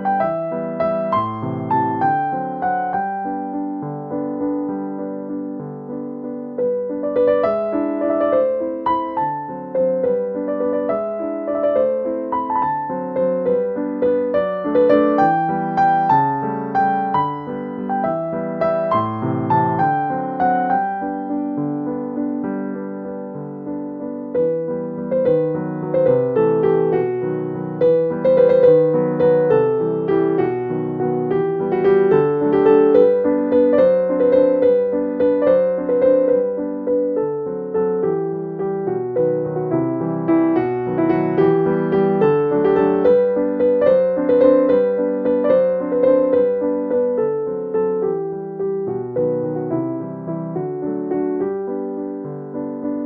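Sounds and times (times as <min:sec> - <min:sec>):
gentle piano melody: 0:00.0 - 0:53.0.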